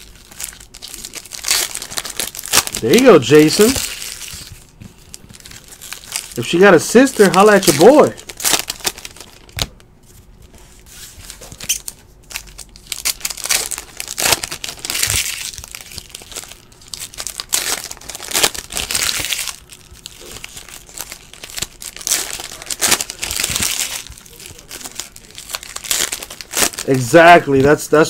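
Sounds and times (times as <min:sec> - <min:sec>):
foil wrappers crinkling: 0:00.0 - 0:28.0.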